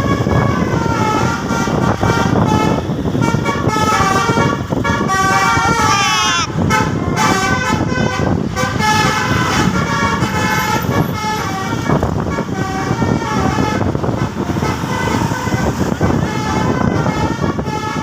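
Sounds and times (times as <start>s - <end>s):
engine and traffic rumble: 0.0s - 18.0s
multi-tone bus air horn: 0.0s - 18.0s.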